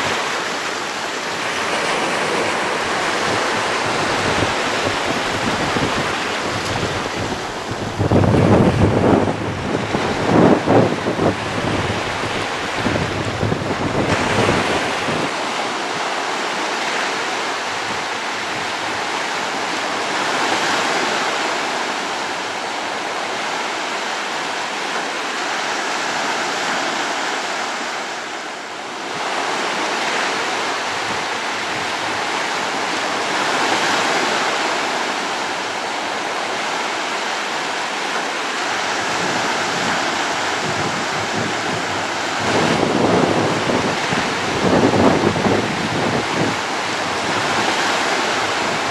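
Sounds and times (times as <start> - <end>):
waves breaking: 0.0 - 48.9.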